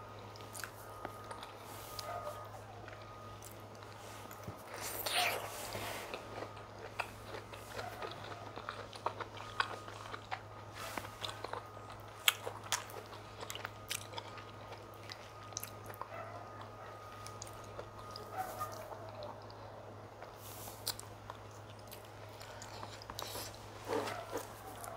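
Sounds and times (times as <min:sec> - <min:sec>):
faint low hum: 0:00.0 - 0:24.9
close chewing and biting: 0:00.3 - 0:24.9.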